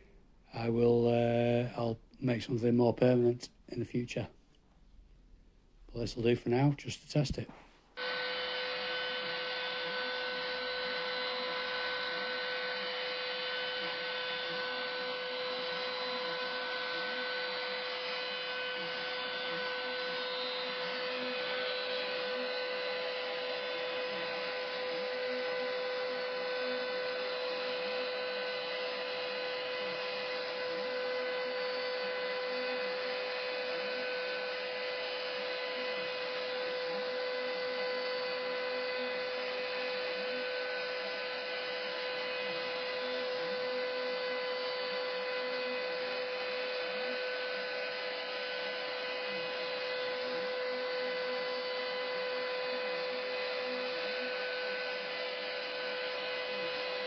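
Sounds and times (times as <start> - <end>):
router spindle whining: 8.0 - 57.0.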